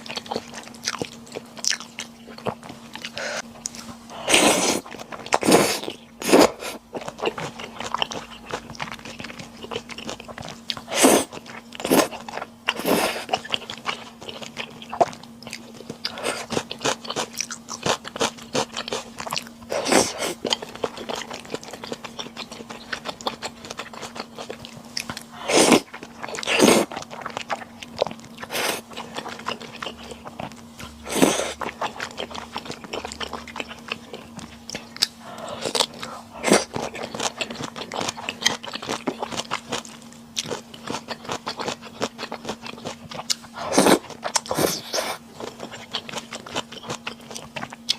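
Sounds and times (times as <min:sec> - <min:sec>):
chewing and crunching food: 0:00.0 - 0:47.9
faint steady hum: 0:00.0 - 0:47.9.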